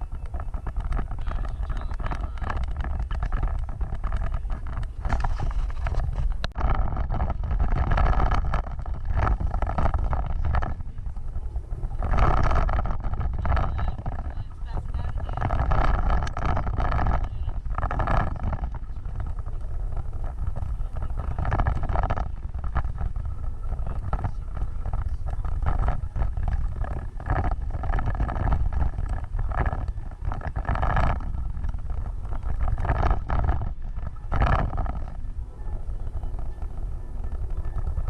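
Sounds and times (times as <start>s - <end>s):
off-road vehicle rumbling: 0.0s - 38.0s.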